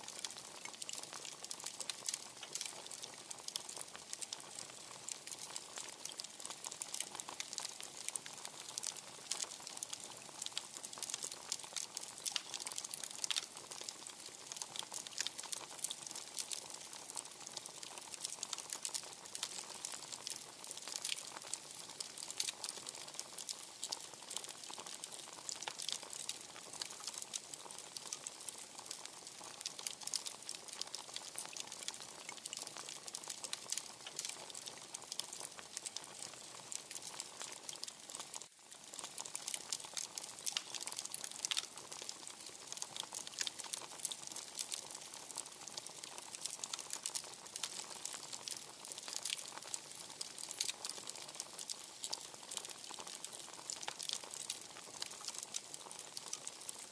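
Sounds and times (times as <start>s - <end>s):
wood fire crackling: 0.1s - 56.9s.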